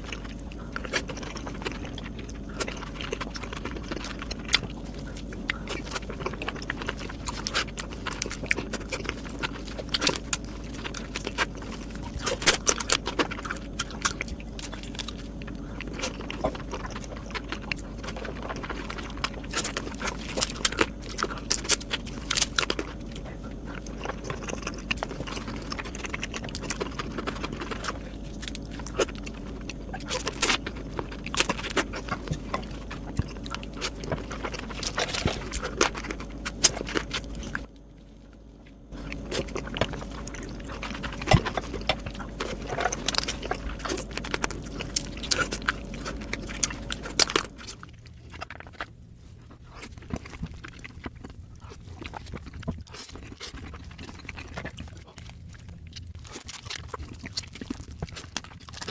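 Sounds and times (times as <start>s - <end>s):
chewing and biting: 0.0s - 58.9s
crab shell cracking: 0.0s - 58.9s.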